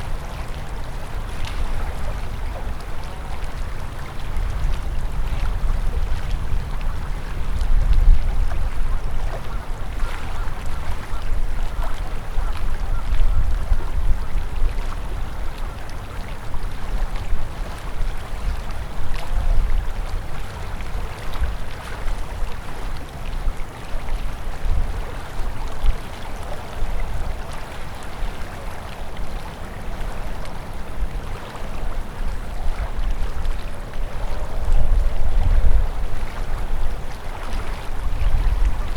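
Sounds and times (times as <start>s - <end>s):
river water rushing and splashing: 0.0s - 38.9s.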